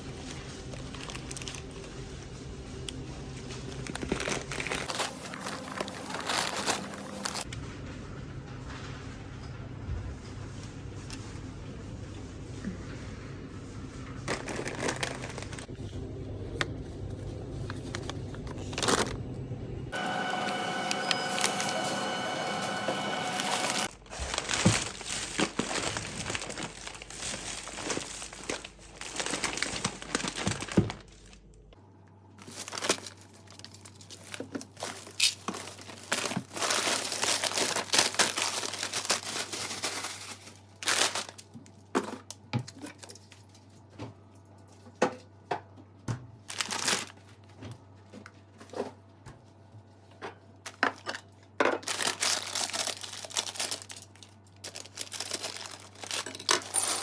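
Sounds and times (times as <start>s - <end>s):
crinkling and rustling: 0.0s - 7.6s, 12.9s - 15.8s, 16.6s - 19.3s, 19.9s - 31.8s, 32.4s - 45.0s, 46.4s - 57.0s.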